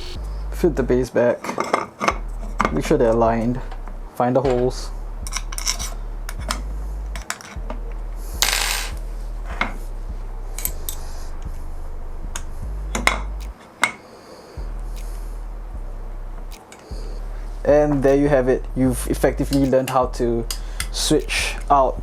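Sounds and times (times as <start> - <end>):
steady low hum: 0.0 - 1.1, 2.1 - 22.0.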